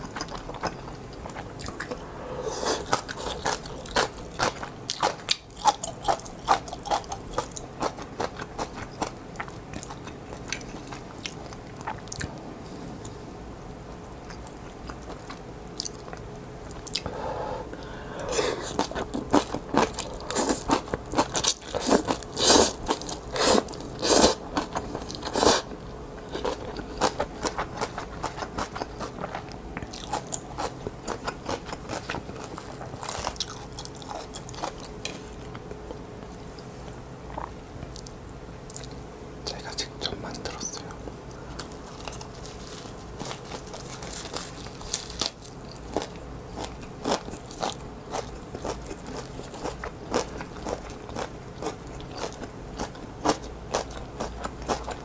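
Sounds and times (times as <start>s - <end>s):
wet chewing and crunching: 0.0s - 2.0s, 2.7s - 12.4s, 18.6s - 36.4s, 37.3s - 55.0s.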